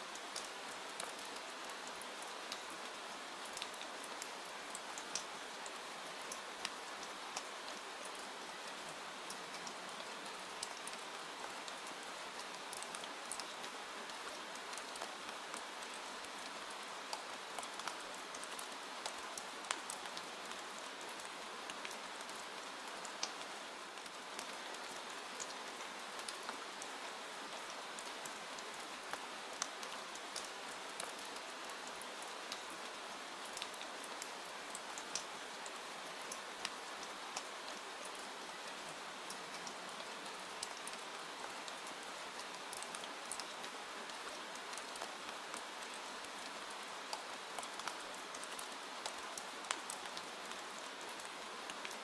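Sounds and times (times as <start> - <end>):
rain hissing on window: 0.1 - 52.0.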